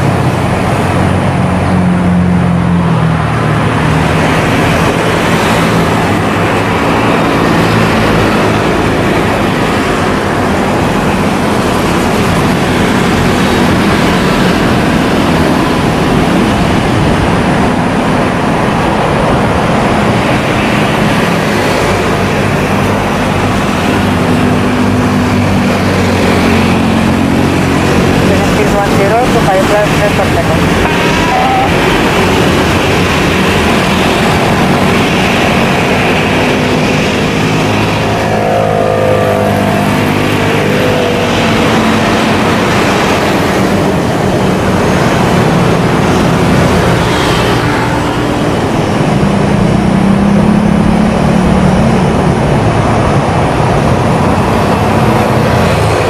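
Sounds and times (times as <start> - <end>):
jet engines at taxi power: 0.0 - 56.0.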